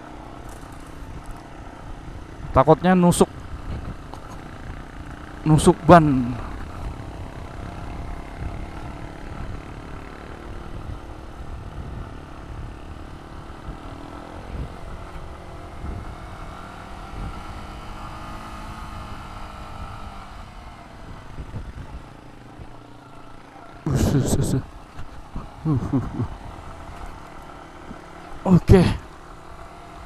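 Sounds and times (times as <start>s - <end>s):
low rumbling from rough road: 0.0s - 30.0s
motorcycle engine running: 0.0s - 30.0s.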